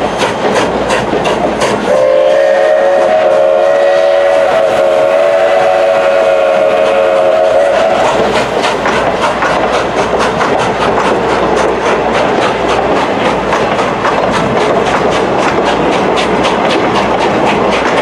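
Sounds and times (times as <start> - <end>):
train wheels clattering over rails: 0.0 - 18.0.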